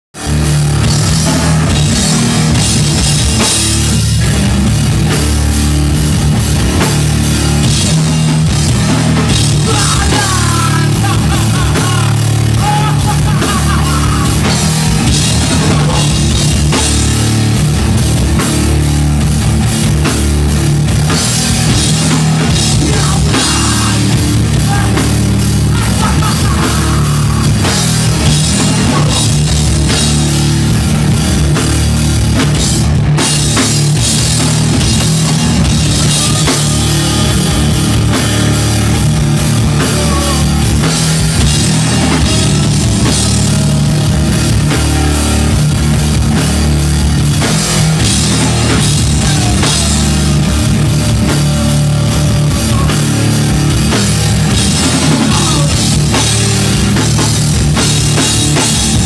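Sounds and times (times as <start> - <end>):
drum kit: 0.1 - 59.0
electric guitars: 0.1 - 59.0.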